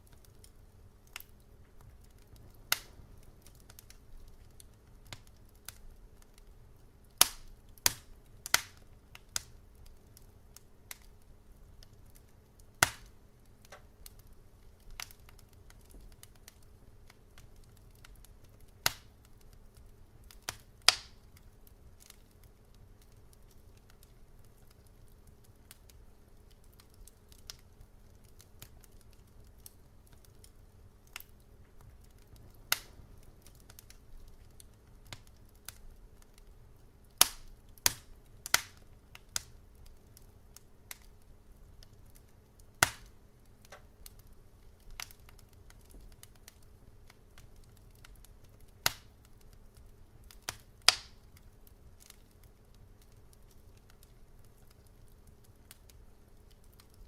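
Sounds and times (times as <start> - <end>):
low hiss: 0.0 - 57.0
wood fire crackling and popping: 0.0 - 57.0.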